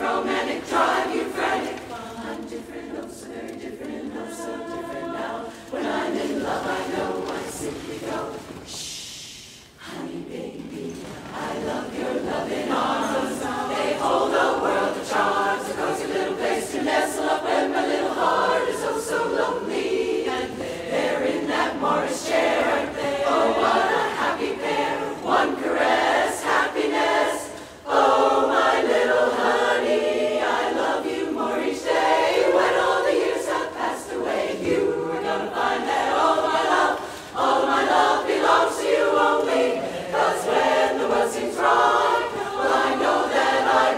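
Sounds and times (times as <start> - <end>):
women's chorus singing a cappella: 0.0 - 43.9.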